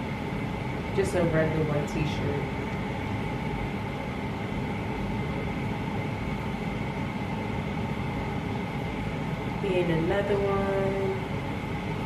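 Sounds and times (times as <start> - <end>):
faint high whine: 0.0 - 12.0
mechanical hum and hiss: 0.0 - 12.0.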